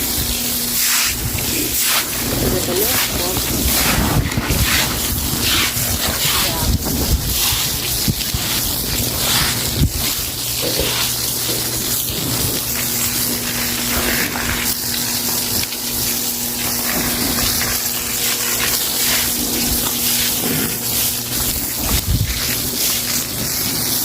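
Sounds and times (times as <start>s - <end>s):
broom washing a floor: 0.0s - 24.0s
water gushing and splashing: 0.0s - 24.0s.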